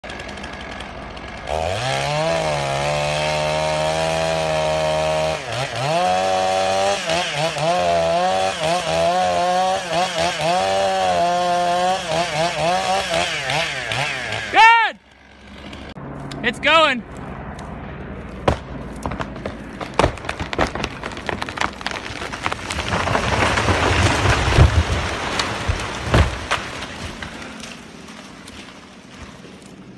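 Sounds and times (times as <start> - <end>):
wood cracking and splintering: 0.0 - 14.6, 18.4 - 29.9
chainsaw cutting wood: 0.0 - 16.5, 18.4 - 29.5
falling tree crashing: 0.1 - 14.6, 18.4 - 29.9.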